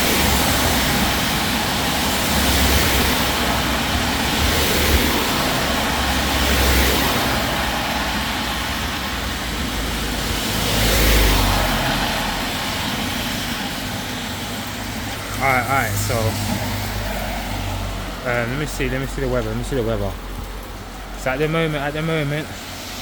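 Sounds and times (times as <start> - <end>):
heavy rain hissing: 0.0 - 23.0
vehicles passing on wet road: 0.0 - 23.0.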